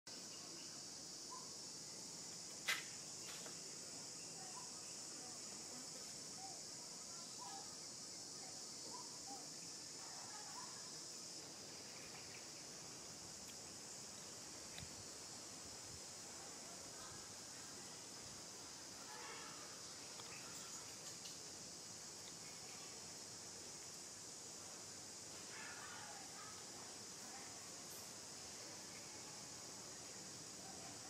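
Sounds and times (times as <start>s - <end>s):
high-pitched insect chorus: 0.1s - 31.0s.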